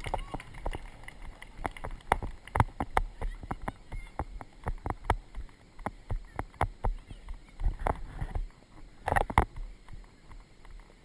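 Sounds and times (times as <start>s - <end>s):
horse hoofbeats: 0.0s - 11.0s
rumble of horse movement: 0.0s - 11.0s.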